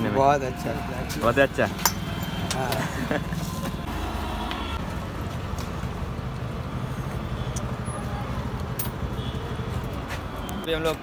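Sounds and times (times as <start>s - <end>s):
city street traffic: 0.0s - 11.0s
vehicle engine humming: 1.0s - 11.0s.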